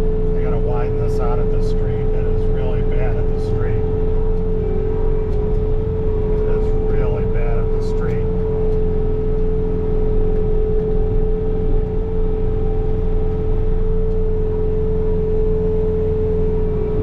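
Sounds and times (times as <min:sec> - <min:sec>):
diesel engine running under load: 0:00.0 - 0:17.0
snow blower whine: 0:00.0 - 0:17.0.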